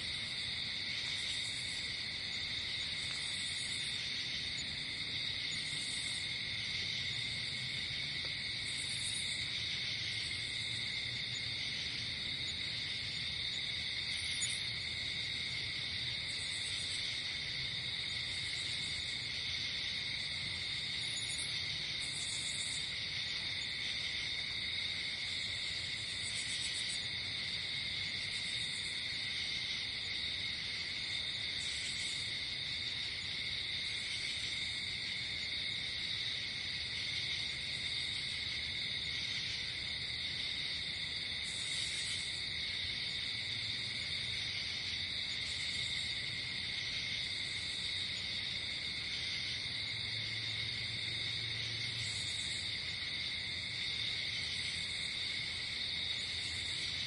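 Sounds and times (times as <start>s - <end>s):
crickets trilling: 0.0s - 57.0s
high insect chirps: 0.1s - 57.0s.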